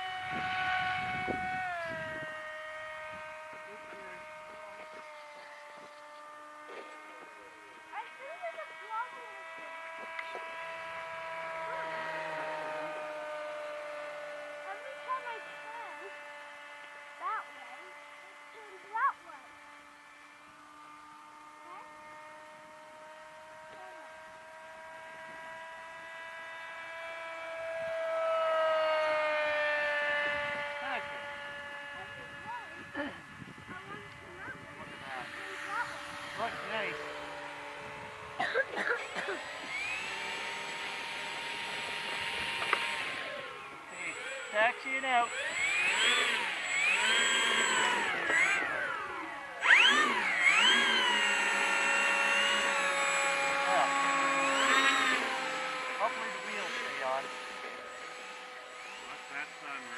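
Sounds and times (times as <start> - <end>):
model airplane motor whining: 0.0 - 59.9.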